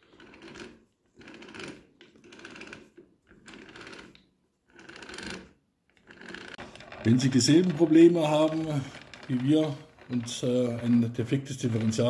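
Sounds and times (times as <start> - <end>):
gears clicking whir turned by hand: 0.0 - 12.0.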